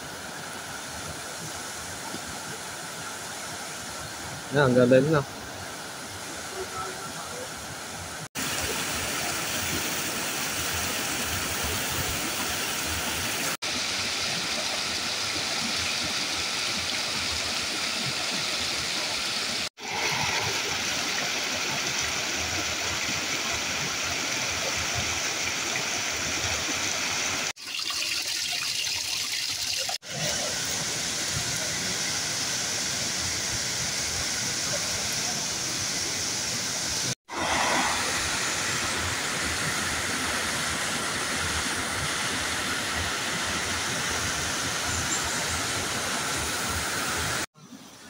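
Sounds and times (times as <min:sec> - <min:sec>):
waterfall rushing: 0:00.0 - 0:27.6, 0:29.4 - 0:47.5.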